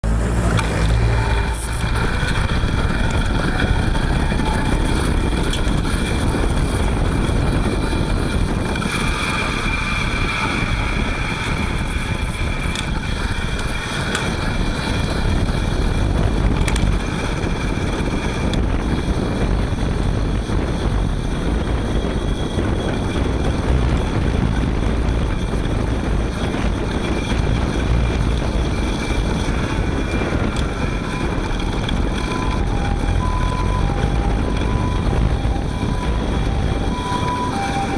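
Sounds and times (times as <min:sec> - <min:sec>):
hub motor whine: 0:00.0 - 0:37.9
road and wind rumble: 0:00.0 - 0:37.9.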